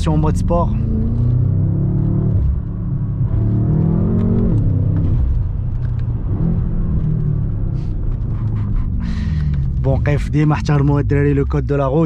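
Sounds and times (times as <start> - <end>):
car engine revving in cabin: 0.0 - 12.0.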